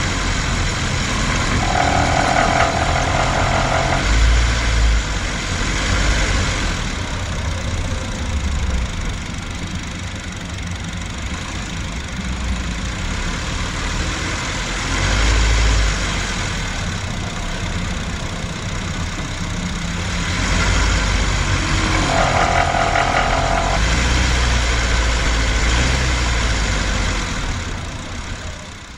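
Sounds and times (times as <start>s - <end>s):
car engine rumbling with rattle: 0.0s - 28.9s.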